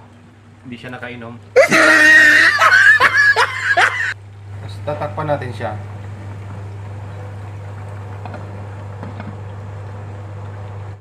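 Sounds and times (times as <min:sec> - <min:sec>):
chicken deep-frying in hot oil: 0:00.0 - 0:03.4, 0:04.0 - 0:11.0.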